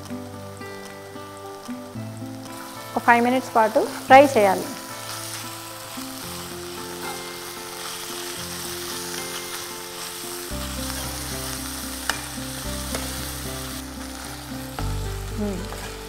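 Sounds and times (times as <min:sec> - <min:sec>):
meat sizzling in a pan: 0:00.0 - 0:16.0
soft background music: 0:00.0 - 0:16.0.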